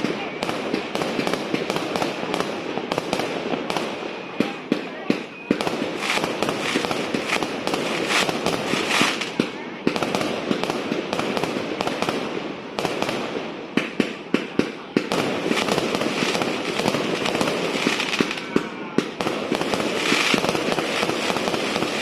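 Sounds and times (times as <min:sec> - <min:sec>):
fireworks crackling and popping: 0:00.0 - 0:22.0
sharp fireworks bangs: 0:00.0 - 0:22.0.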